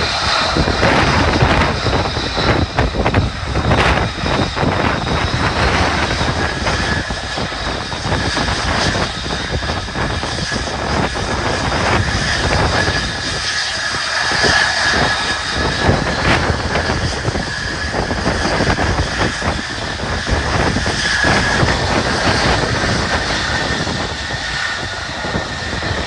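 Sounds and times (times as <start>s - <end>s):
jet engine in afterburner: 0.0s - 26.0s.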